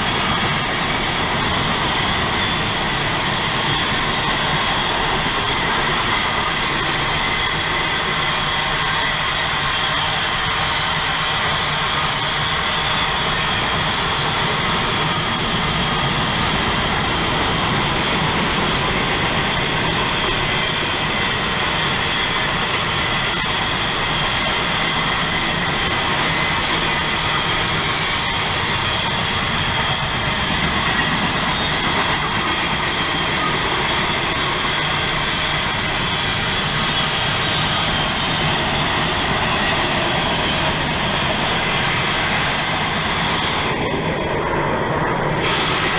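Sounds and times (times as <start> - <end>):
freight train wheels on rails: 0.0 - 45.9.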